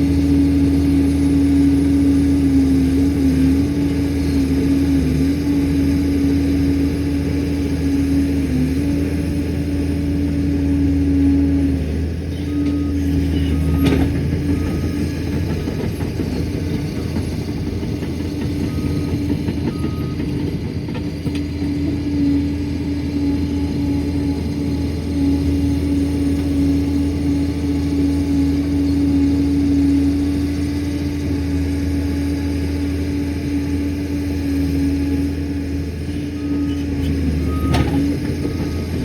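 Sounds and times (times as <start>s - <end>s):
dozer diesel engine running: 0.0s - 39.0s.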